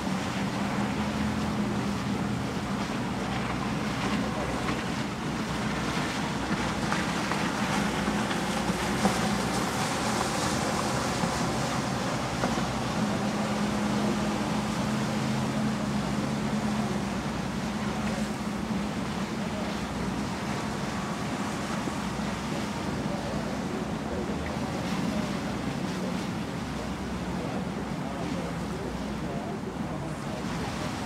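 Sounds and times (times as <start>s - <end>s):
low engine hum: 0.0s - 31.0s
water rushing past bow: 0.0s - 31.0s.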